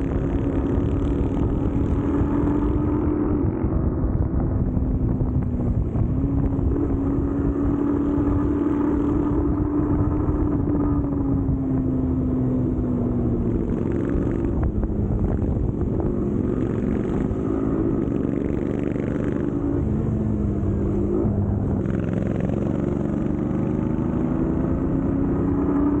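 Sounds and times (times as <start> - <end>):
motorcycle engine exhaust note: 0.0 - 26.0.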